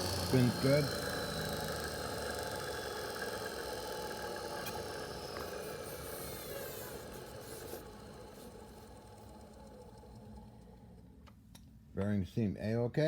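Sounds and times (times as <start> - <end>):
electric motor whine winding down: 0.0 - 11.2.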